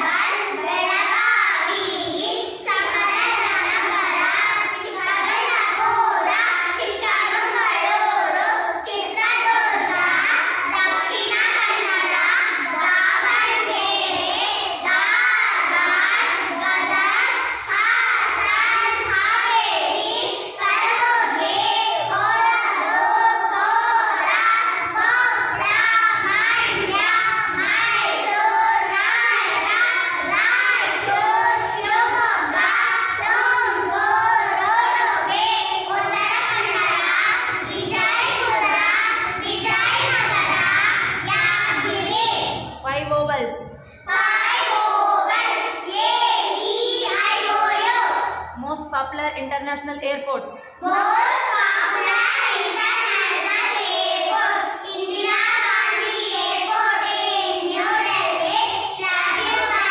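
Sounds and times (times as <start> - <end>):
girls chanting in unison: 0.0 - 42.7, 43.6 - 48.6, 50.6 - 59.9.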